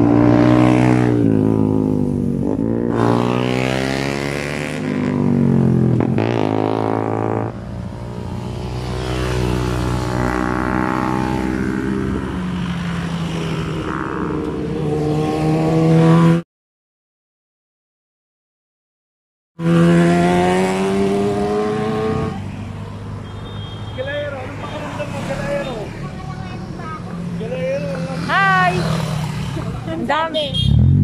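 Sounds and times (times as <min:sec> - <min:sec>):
motorcycle engines passing: 0:00.0 - 0:16.4, 0:19.6 - 0:31.0.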